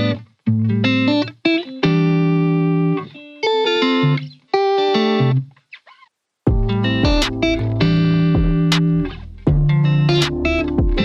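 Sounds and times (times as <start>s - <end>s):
guitar chords: 0.0s - 5.6s, 6.5s - 11.0s.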